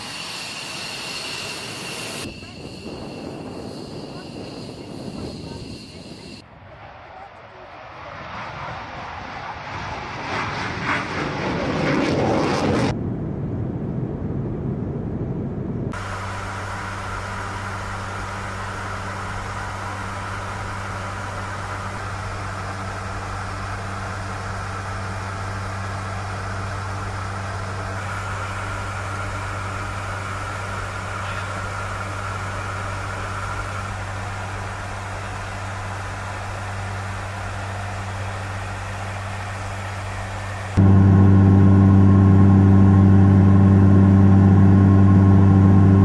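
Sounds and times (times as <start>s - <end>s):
aircraft cabin engine drone: 0.0s - 46.0s
jet engine roaring: 0.0s - 46.0s.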